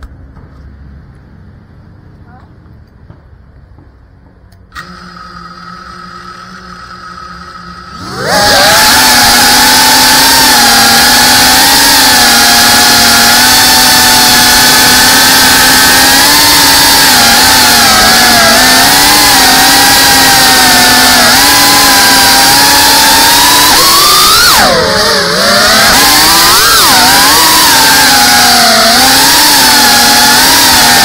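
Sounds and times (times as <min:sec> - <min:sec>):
drone propellers whining: 0:04.5 - 0:31.0.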